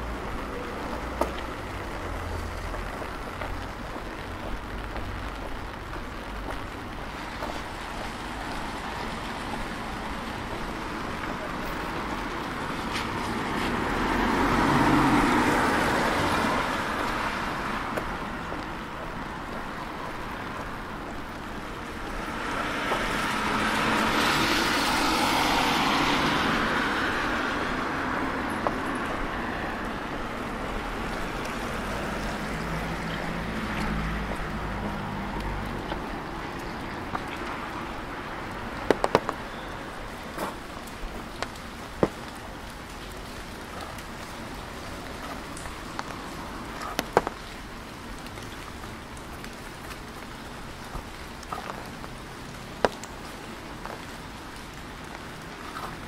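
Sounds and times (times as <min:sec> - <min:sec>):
city traffic noise: 0:00.0 - 0:56.0
tyres hissing on wet road: 0:00.0 - 0:56.0.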